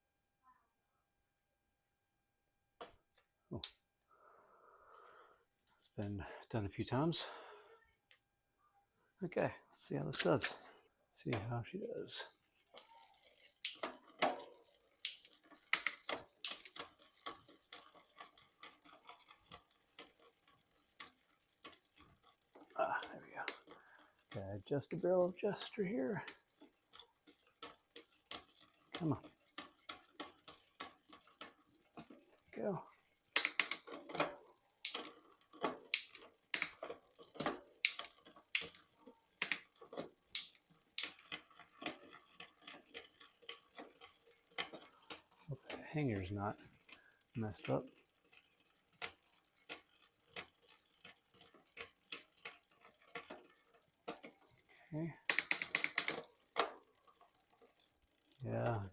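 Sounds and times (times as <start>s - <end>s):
bicycle drivetrain clicking: 2.8s - 8.3s, 9.5s - 58.9s.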